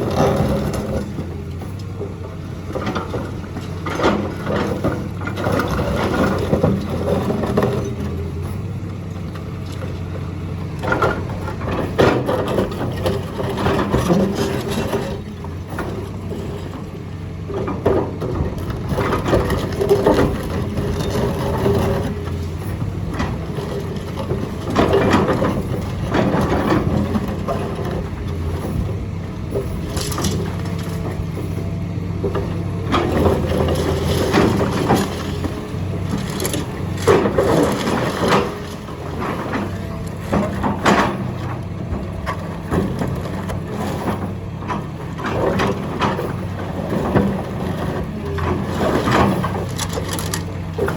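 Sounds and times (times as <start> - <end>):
diesel engine running: 0.0 - 50.9
concrete crunching and cracking: 9.3 - 50.9.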